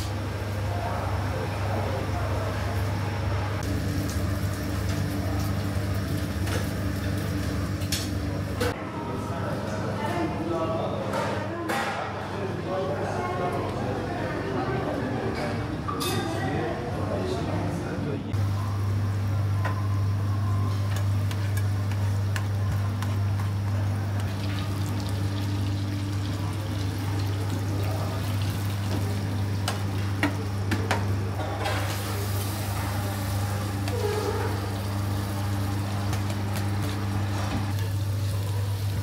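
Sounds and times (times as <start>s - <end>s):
low kitchen hum: 0.0s - 39.0s.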